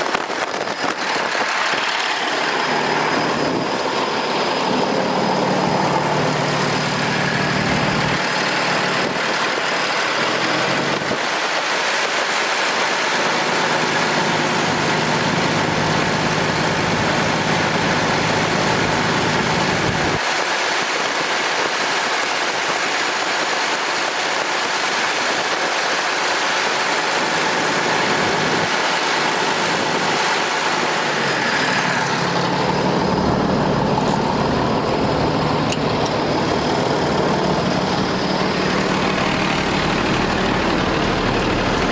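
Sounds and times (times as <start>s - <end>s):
diesel engine idling: 0.0s - 20.2s, 26.5s - 41.9s.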